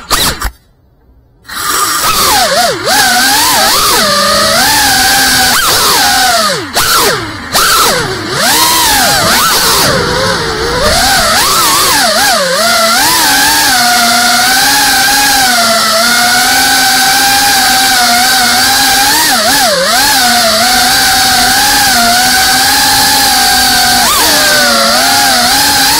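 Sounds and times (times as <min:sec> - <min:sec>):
drone propellers whining: 0:01.4 - 0:25.9.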